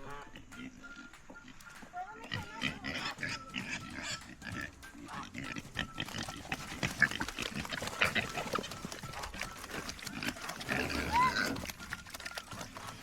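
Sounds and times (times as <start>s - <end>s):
pigs grunting: 0.0s - 13.0s.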